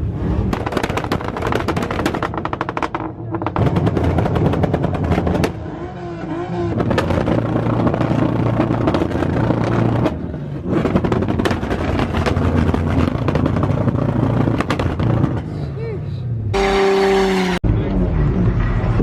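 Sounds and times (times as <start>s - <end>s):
car engines revving loudly: 0.0s - 19.0s.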